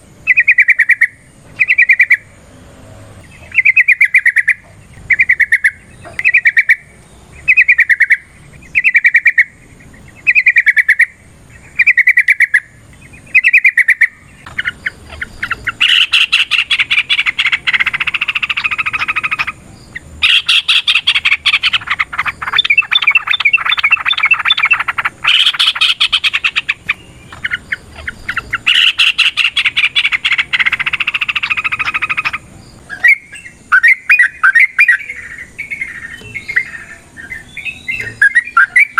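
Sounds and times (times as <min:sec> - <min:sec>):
bird singing and chattering: 0:00.0 - 0:38.9.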